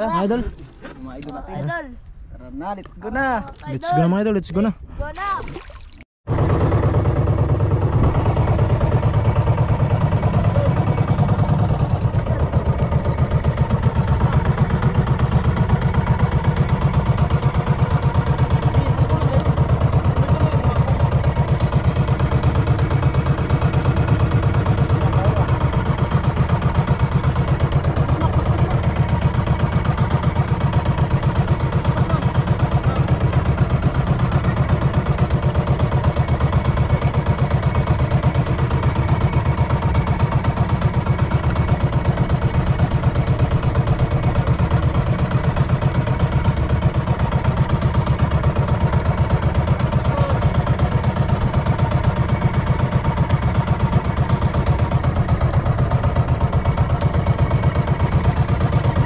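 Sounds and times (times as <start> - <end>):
boat engine droning: 2.6 - 59.0.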